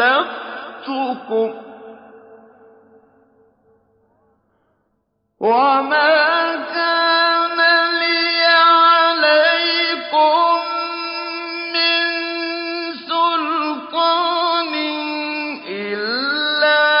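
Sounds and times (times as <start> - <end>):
man chanting melodically: 0.0 - 2.8, 5.4 - 17.0.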